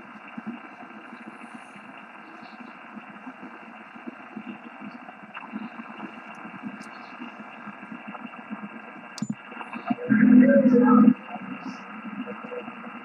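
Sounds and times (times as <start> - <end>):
radio static: 0.0 - 13.0.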